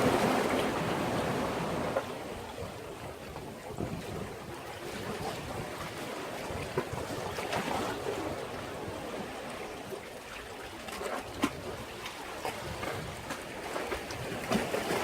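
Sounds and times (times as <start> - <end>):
wind on microphone: 0.0 - 9.4, 11.3 - 15.0
waves washing against breakwater: 0.0 - 15.0.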